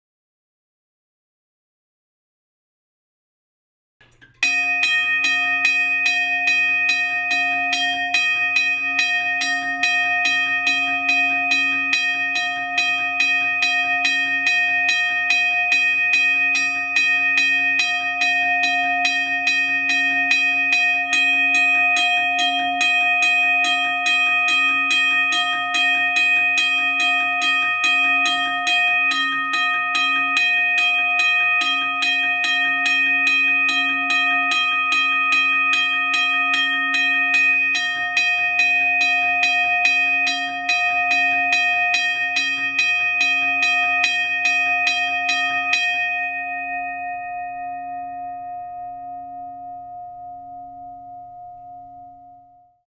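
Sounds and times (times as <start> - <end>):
railroad crossing bell ringing: 4.4 - 52.1.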